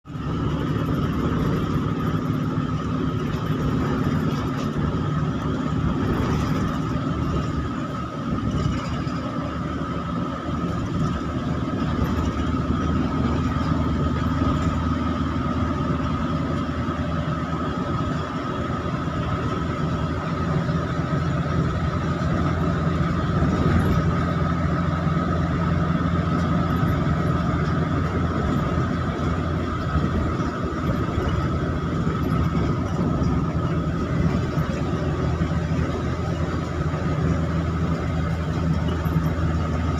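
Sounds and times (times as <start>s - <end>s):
bus engine drone: 0.0s - 39.9s
thin steady whine: 0.1s - 39.9s.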